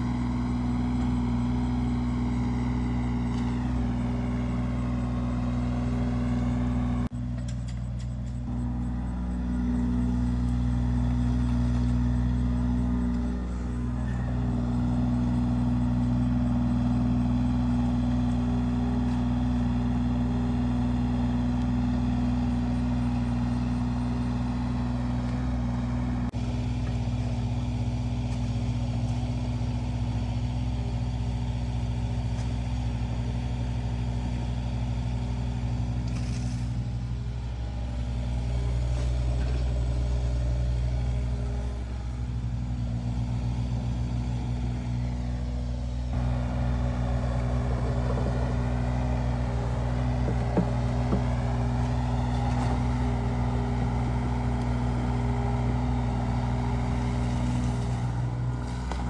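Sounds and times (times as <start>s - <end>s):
diesel excavator engine running: 0.0s - 59.0s.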